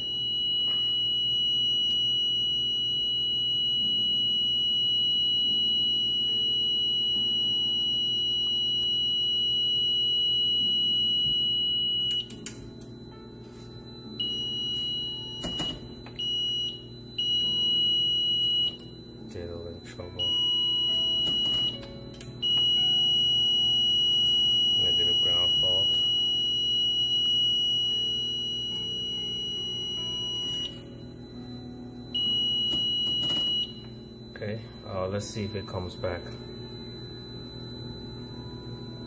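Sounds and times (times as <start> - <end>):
high-pitched alarm panel buzzer: 0.0 - 12.9, 13.5 - 19.3, 20.2 - 34.3.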